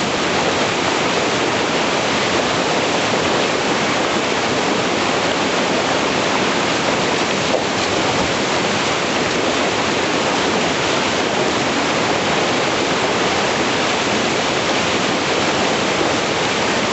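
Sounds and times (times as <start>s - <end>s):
whitewater rushing over rocks: 0.0s - 16.9s.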